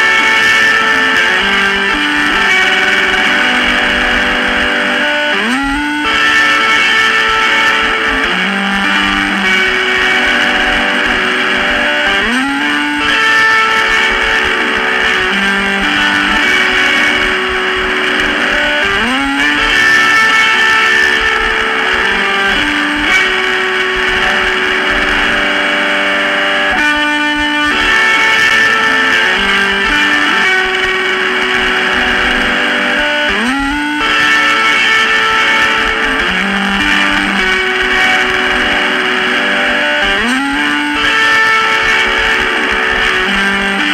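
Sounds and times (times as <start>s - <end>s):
lo-fi electric guitar music: 0.0s - 43.9s.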